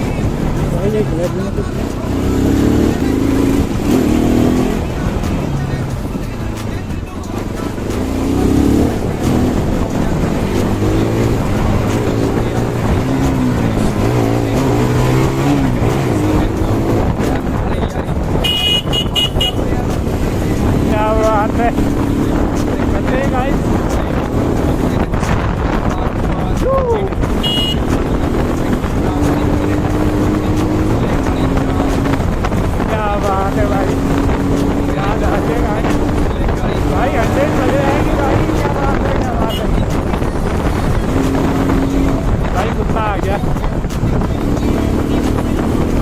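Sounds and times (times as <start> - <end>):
motorcycle engine revving: 0.0 - 46.0
wind and road noise: 0.0 - 46.0.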